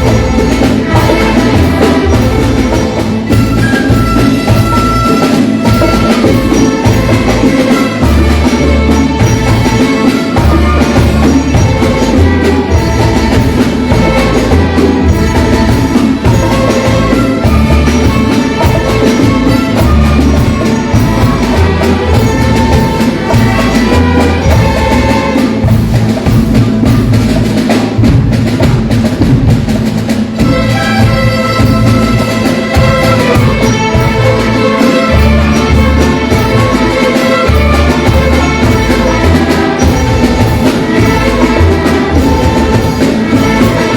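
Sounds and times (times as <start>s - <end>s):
instrumental folk music: 0.0s - 43.9s.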